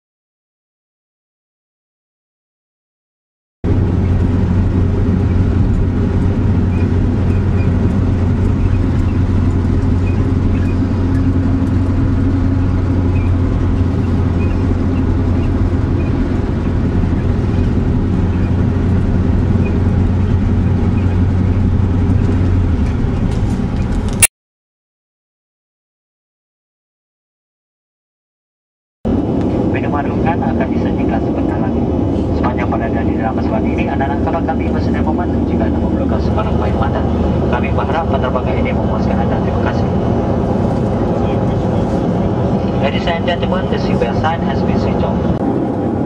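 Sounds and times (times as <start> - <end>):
car engine drone: 3.6 - 24.3, 29.1 - 46.0
road noise: 3.6 - 24.3, 29.1 - 46.0.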